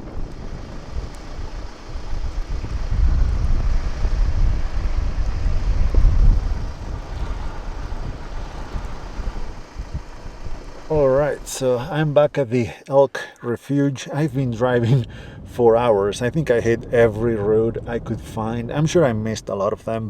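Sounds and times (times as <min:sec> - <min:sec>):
wind buffeting microphone: 0:00.0 - 0:12.4, 0:14.2 - 0:20.0.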